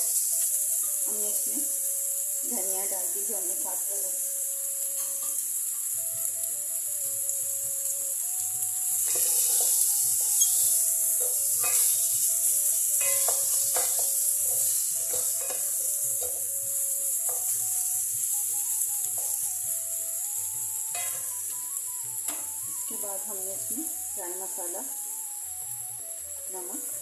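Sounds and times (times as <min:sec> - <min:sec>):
wooden spatula scraping mince: 0:00.0 - 0:24.8
meat filling sizzling in pot: 0:00.0 - 0:27.0.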